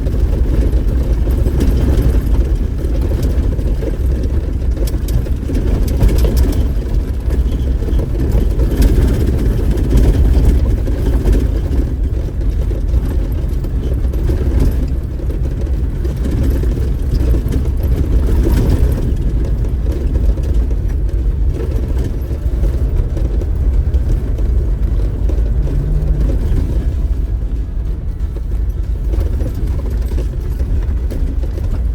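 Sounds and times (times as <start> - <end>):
off-road vehicle engine and tyre rumble: 0.0 - 31.9
rattles and knocks: 0.0 - 31.9.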